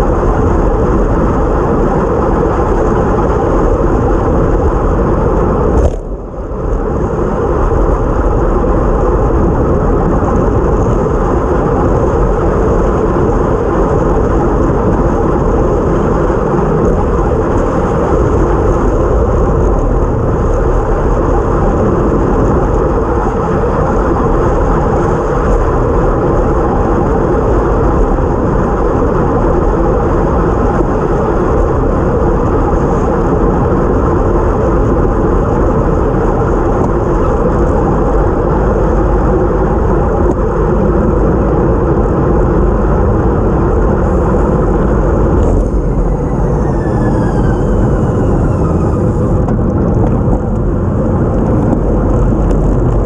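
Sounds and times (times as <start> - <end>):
tyre noise on wet road: 0.0 - 53.0
wind rushing over microphone: 0.0 - 53.0.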